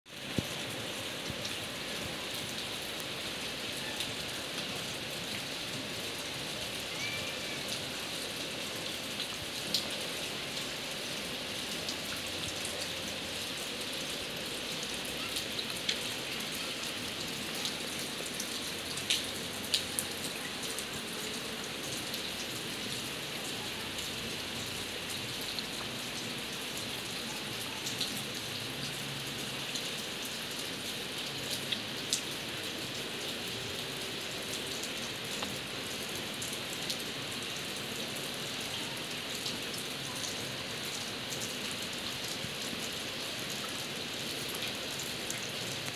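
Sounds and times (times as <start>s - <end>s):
steady rain falling: 0.1s - 45.9s.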